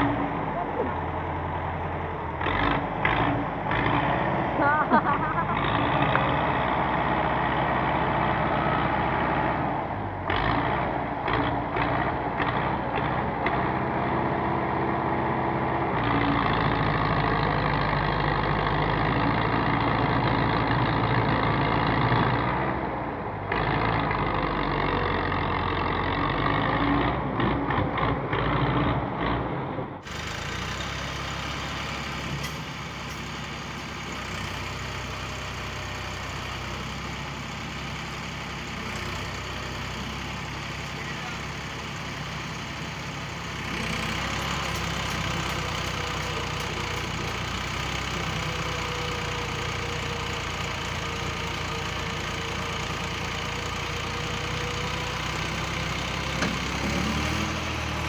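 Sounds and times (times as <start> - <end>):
quieter tractor engine running: 0.0 - 58.0
tractor engine running: 0.0 - 58.0.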